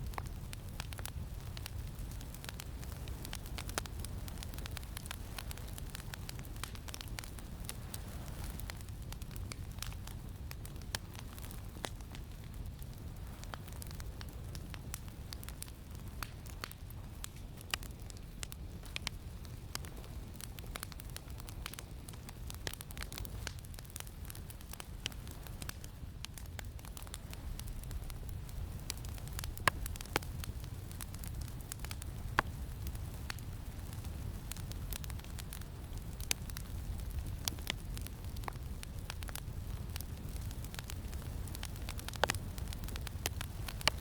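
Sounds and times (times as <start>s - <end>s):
campfire crackling: 0.0s - 44.0s
low rumble of wind: 0.0s - 44.0s.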